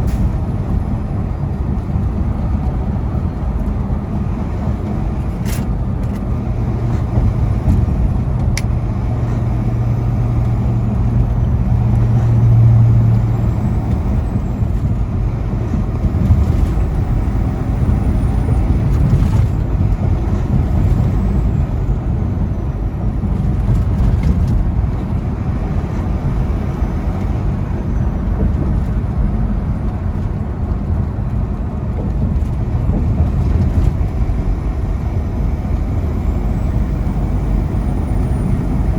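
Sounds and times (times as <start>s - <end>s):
truck engine drone: 0.0s - 38.9s
tyre and road rumble: 0.0s - 38.9s.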